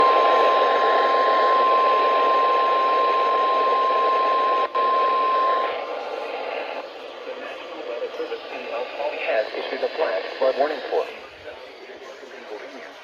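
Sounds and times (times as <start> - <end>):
steady high alarm tone: 0.0 - 11.1
radio static: 0.0 - 13.0.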